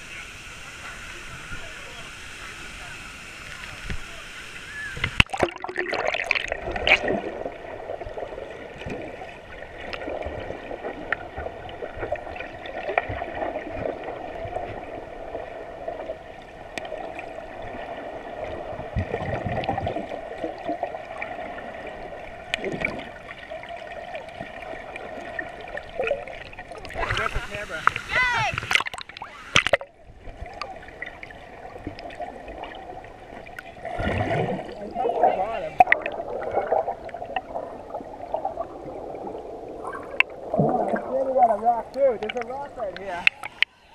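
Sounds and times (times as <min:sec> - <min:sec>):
underwater churning water: 0:00.0 - 0:43.8.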